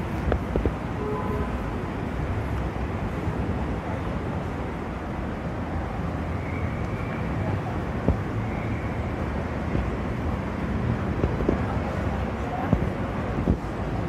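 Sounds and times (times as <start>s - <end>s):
faint voices of passers-by: 0.0s - 14.0s
low rumble of traffic: 0.0s - 14.0s.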